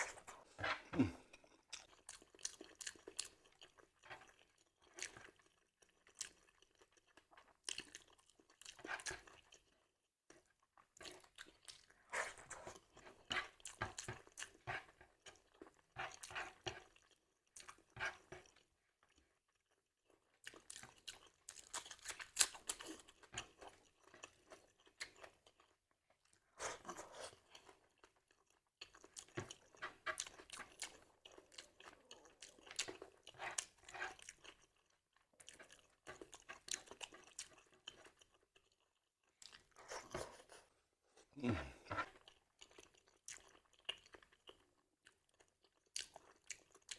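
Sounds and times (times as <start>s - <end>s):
chewing crisp food: 0.0s - 46.9s.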